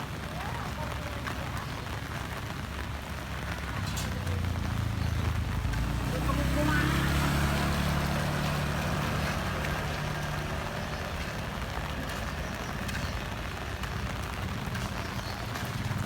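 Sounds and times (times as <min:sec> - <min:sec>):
heavy rain: 0:00.0 - 0:16.0
vehicle engine hum: 0:02.6 - 0:16.0.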